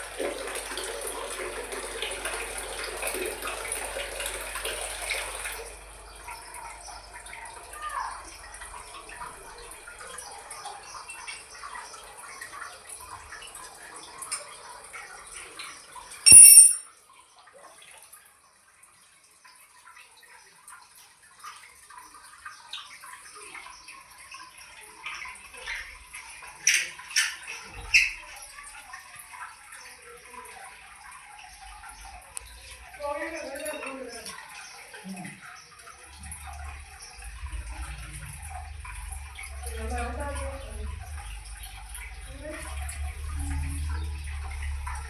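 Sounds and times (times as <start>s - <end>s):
water running from a tap: 0.0s - 45.0s.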